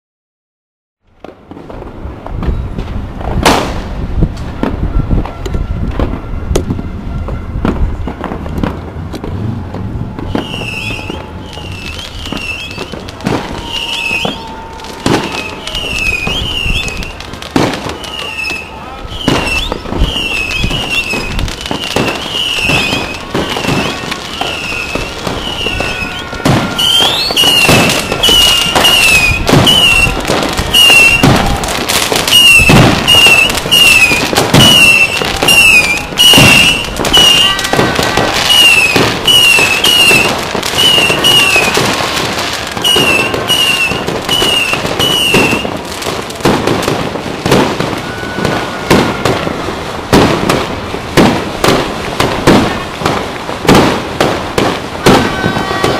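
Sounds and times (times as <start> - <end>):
firecrackers banging and crackling: 1.0 - 55.9.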